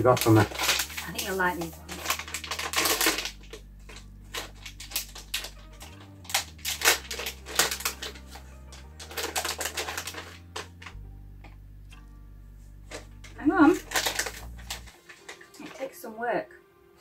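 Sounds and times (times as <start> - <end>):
plastic snack packet crinkling: 0.0 - 11.0, 12.9 - 16.0.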